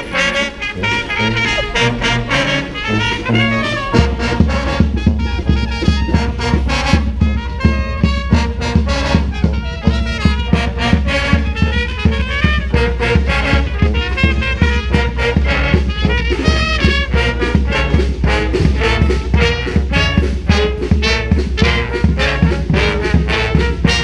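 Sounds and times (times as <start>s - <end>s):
brass band playing: 0.0s - 24.0s
heavy low bass line: 0.0s - 24.0s.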